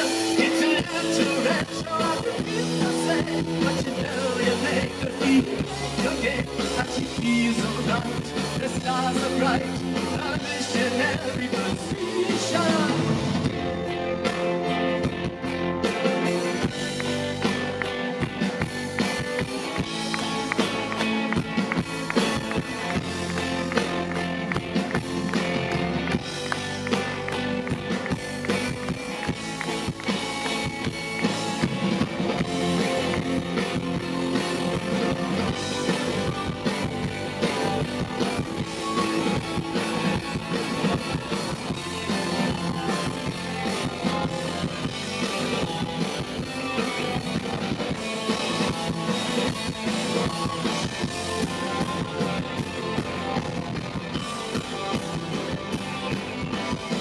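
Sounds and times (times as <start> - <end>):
drums: 0.0 - 57.0
electric guitar: 0.0 - 57.0
keyboards: 0.0 - 57.0
live rock band playing: 0.0 - 57.0.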